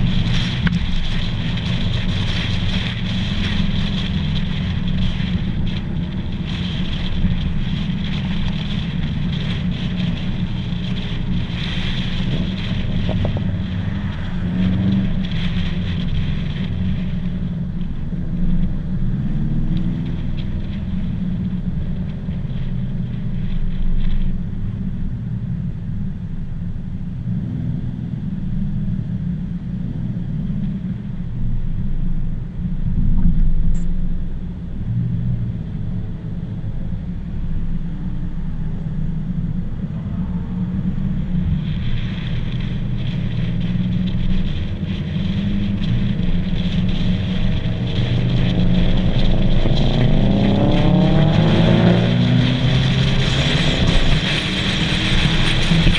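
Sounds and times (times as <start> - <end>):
car engine and road rumble: 0.0 - 55.9
wind noise on microphone: 0.0 - 55.9.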